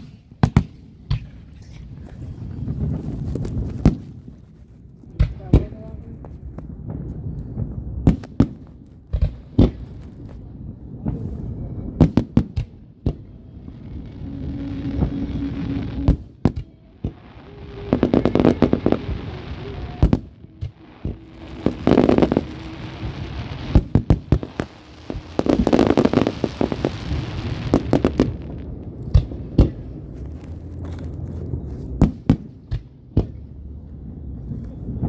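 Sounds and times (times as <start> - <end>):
fireworks bangs: 0.0 - 33.8
fireworks crackling: 0.0 - 35.0.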